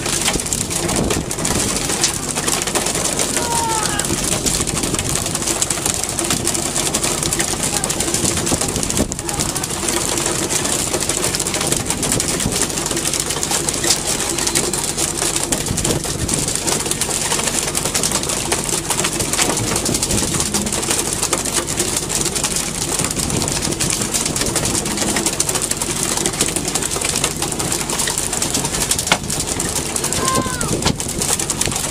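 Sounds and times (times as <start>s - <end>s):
low engine drone: 0.0s - 31.9s
sea noise: 0.0s - 31.9s
wind: 0.0s - 31.9s.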